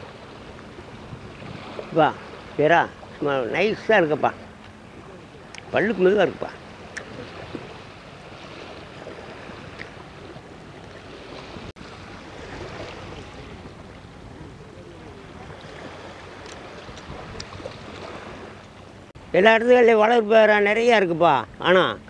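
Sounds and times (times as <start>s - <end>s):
sea surf: 0.0s - 22.0s
wind: 0.0s - 22.0s.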